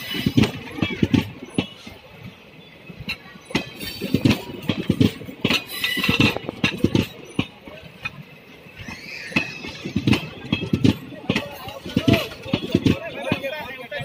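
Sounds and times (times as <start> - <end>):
train wheels clattering over joints: 0.0 - 14.0.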